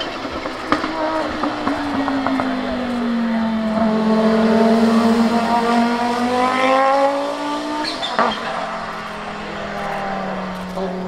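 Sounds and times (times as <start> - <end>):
exhaust crack: 0.0 - 11.0
race car engine accelerating: 0.0 - 11.0.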